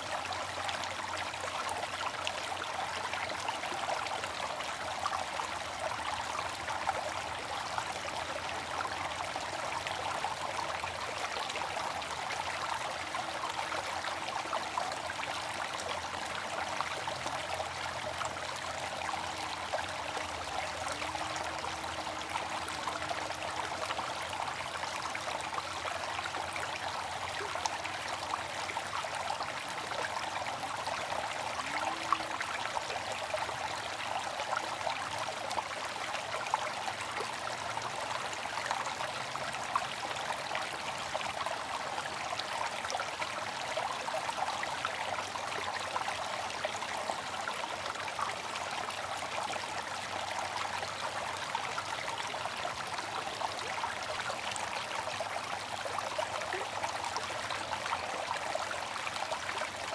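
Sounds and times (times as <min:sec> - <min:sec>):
fountain water trickling: 0:00.0 - 0:59.9.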